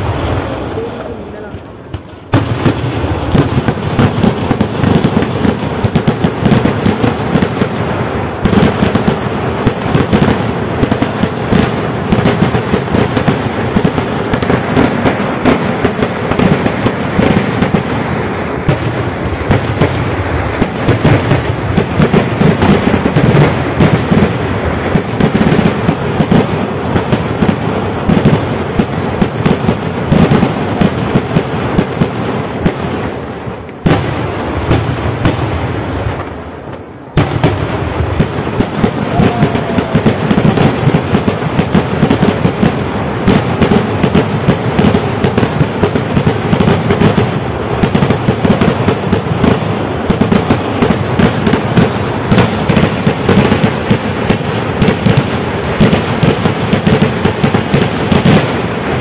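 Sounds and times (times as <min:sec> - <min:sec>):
fireworks barrage: 0:00.0 - 0:59.0.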